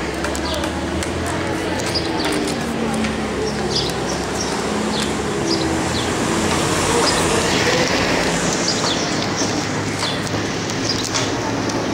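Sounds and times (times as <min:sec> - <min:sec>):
vehicle road and engine noise: 0:00.0 - 0:11.9.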